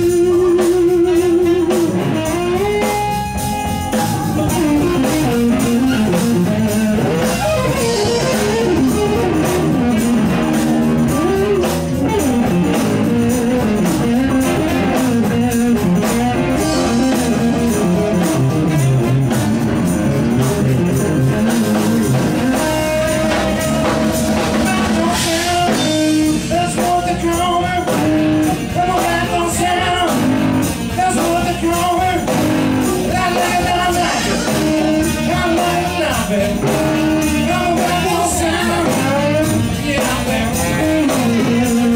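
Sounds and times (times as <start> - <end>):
blues-rock band playing: 0.0 - 41.9
electric guitar: 0.0 - 41.9.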